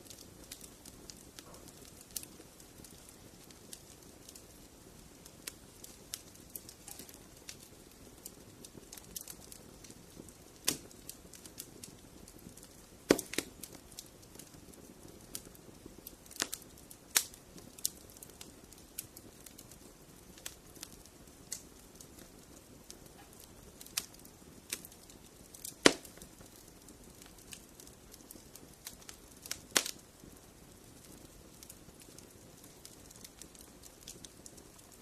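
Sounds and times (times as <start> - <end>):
sharp pops of fire: 0.0 - 35.0
wood fire crackling: 0.0 - 35.0.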